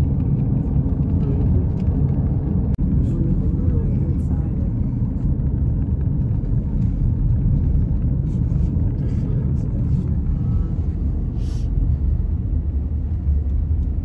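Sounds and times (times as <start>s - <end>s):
car cabin road rumble: 0.0s - 14.0s.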